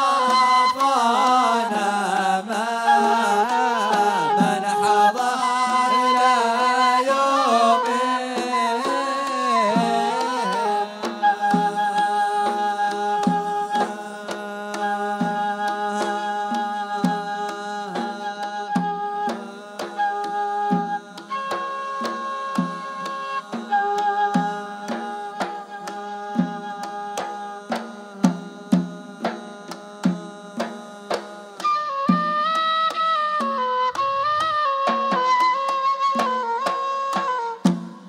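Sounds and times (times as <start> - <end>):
drum beats: 0.0 - 6.9, 7.5 - 38.0
person singing: 0.0 - 31.7
wind instrument holding long notes: 0.0 - 38.0.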